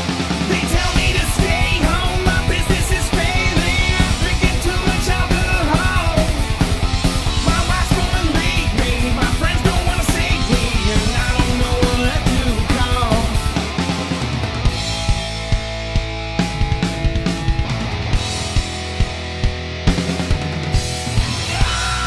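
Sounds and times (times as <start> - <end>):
distorted electric guitars: 0.0 - 22.0
rapid rock drum beat: 0.0 - 22.0.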